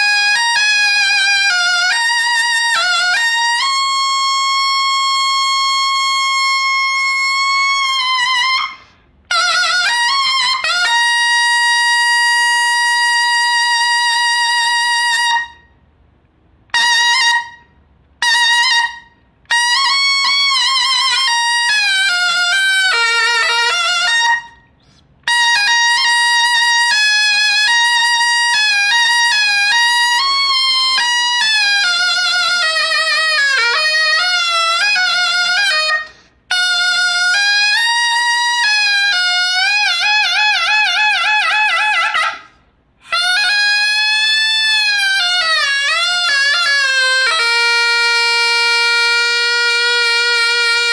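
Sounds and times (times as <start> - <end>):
shawm melody: 0.0 - 50.9.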